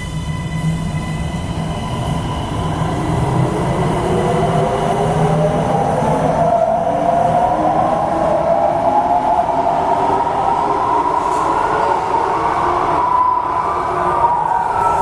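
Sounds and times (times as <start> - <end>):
metro train rumble with whine: 0.0 - 15.0.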